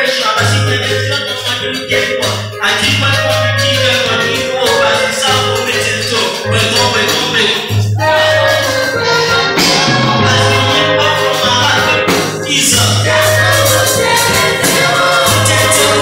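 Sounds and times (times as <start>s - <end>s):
group singing gospel song: 0.0s - 16.0s
lead voice on microphone: 0.0s - 16.0s
jingling percussion: 0.3s - 16.0s
held bass notes: 0.4s - 16.0s.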